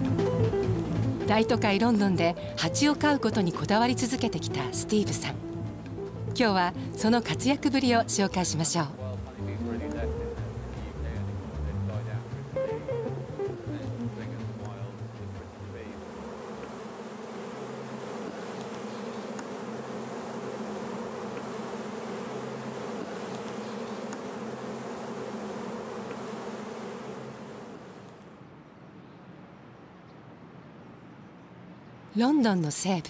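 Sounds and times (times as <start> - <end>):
honeybees buzzing: 0.0 - 28.4.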